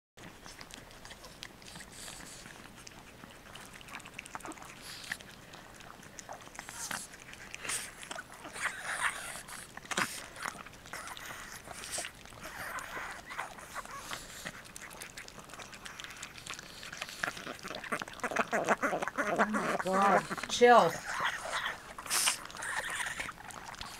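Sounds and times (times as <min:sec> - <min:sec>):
dogs licking and lapping: 0:00.2 - 0:23.9.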